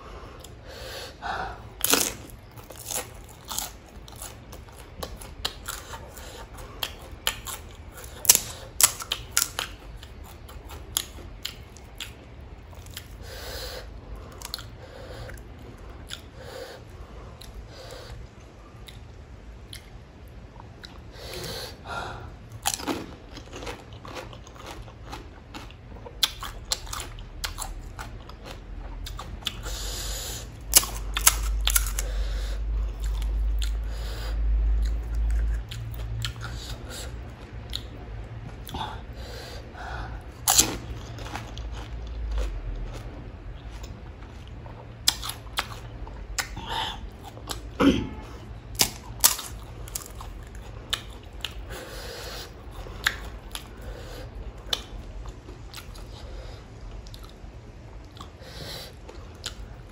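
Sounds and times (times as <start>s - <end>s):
crunching and chewing food: 0.3s - 59.9s.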